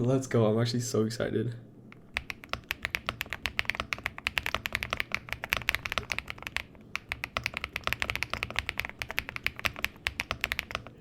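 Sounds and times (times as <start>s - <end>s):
mechanical keyboard typing: 1.9s - 11.0s.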